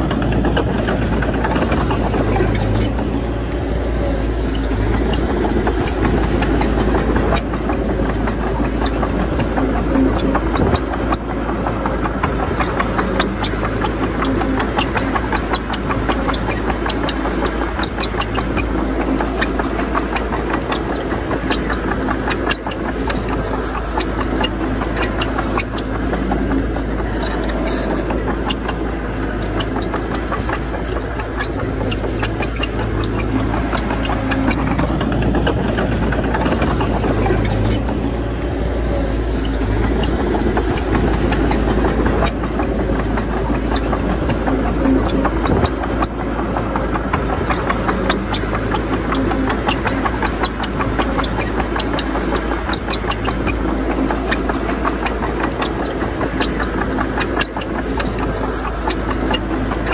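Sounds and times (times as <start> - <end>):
bulldozer diesel engine running: 0.0 - 59.9
rattle of small clanks: 0.0 - 59.9.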